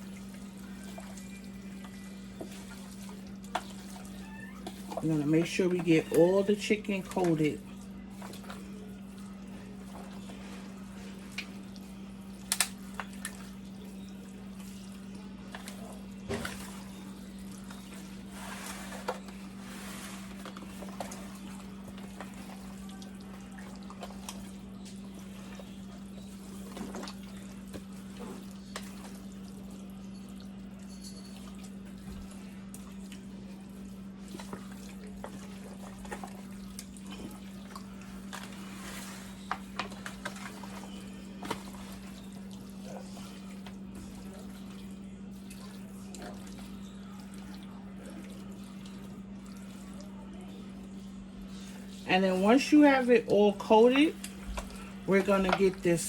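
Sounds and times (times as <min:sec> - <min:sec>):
wet squelches of mixing chicken: 0:00.0 - 0:56.0.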